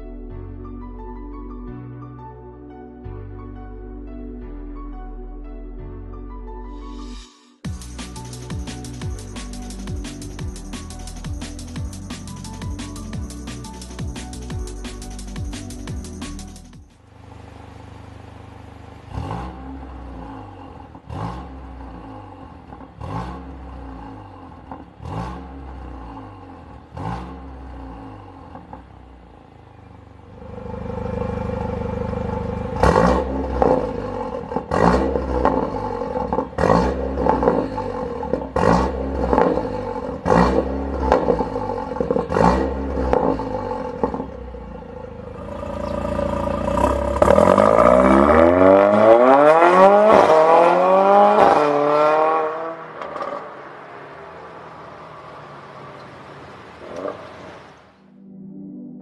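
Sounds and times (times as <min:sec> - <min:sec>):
exhaust cracks: 0:07.7 - 0:57.9
car engine revving: 0:07.7 - 0:58.0.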